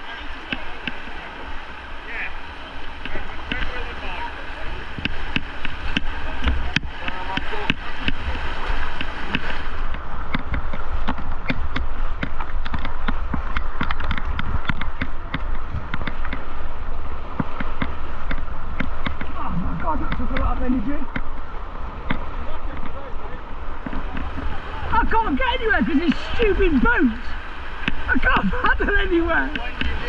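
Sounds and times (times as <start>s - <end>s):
low microphone rumble: 0.0s - 30.0s
river water rushing: 0.0s - 30.0s
sharp splashes and knocks: 4.9s - 23.0s, 23.7s - 30.0s.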